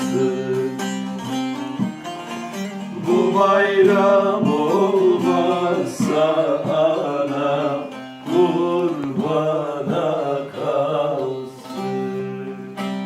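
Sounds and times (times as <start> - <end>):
man singing folk song: 0.0 - 2.0, 2.9 - 13.0
plucked string instrument: 0.0 - 13.0.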